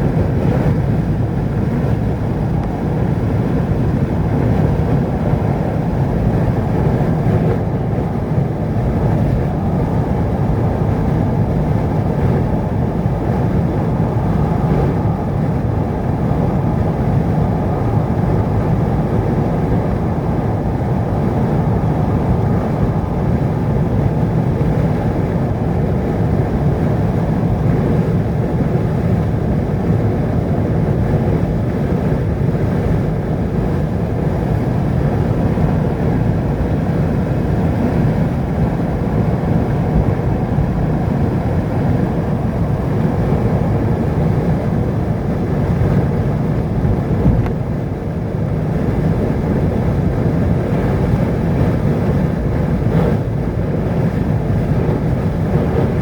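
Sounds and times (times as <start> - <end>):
vehicle driving on road: 0.1 - 56.0.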